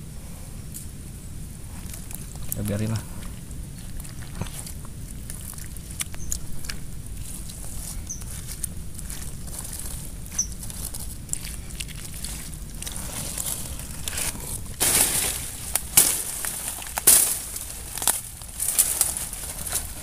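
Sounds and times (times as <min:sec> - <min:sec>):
rustling through dry brush: 0:00.0 - 0:20.0
twigs snapping: 0:01.8 - 0:20.0.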